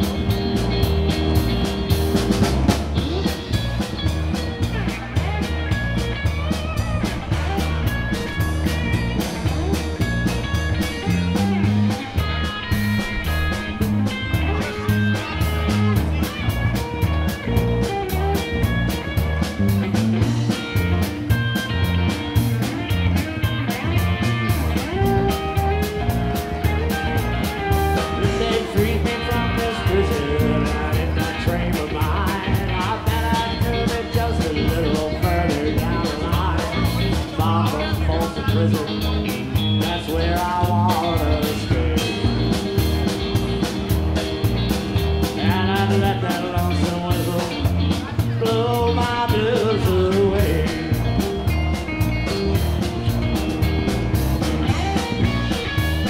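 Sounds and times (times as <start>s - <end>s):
drums steady beat: 0.0s - 56.0s
electric guitar: 0.0s - 56.0s
live rock band playing: 0.0s - 56.0s.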